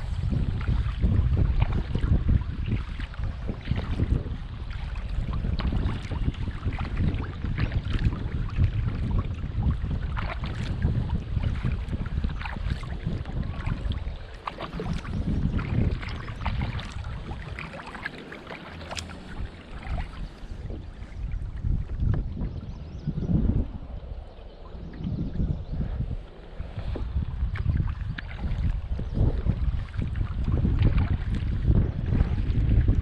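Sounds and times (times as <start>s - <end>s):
paddle splashing in water: 0.0s - 23.4s, 25.8s - 33.0s
wind buffeting microphone: 0.0s - 33.0s.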